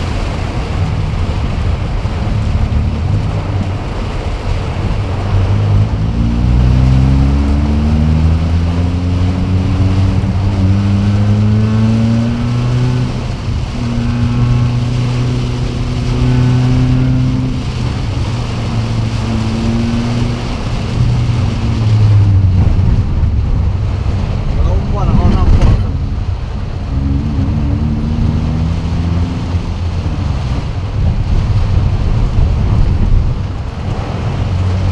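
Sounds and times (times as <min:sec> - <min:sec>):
engine revving: 0:00.0 - 0:34.9
heavy rain hissing: 0:00.0 - 0:34.9.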